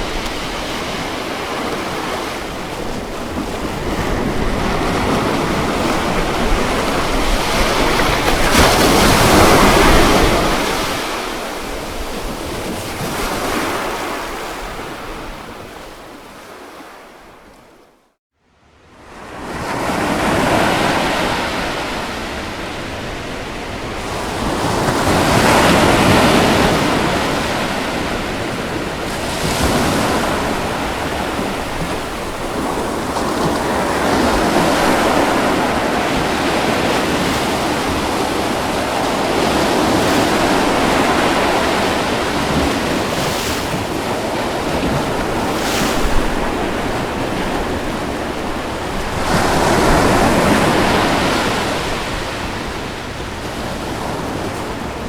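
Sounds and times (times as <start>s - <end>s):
ocean waves washing: 0.0s - 17.5s, 19.0s - 55.0s.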